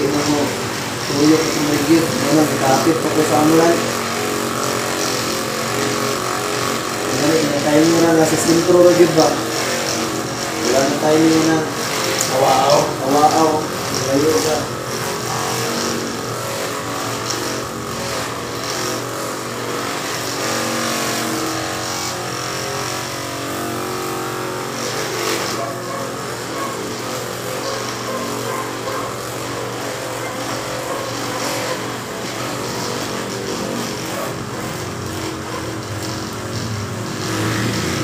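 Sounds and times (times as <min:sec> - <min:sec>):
motor engine running: 0:00.0 - 0:38.0.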